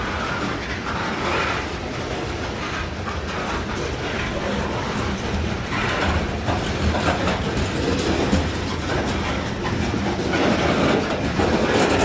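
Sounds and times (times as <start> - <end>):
train rumble: 0.0 - 12.0
train wheels clacking on rails: 0.0 - 12.0.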